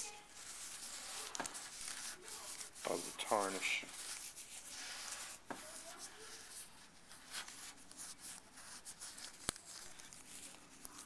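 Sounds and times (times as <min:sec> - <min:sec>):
cloth wiping metal: 0:00.3 - 0:09.2.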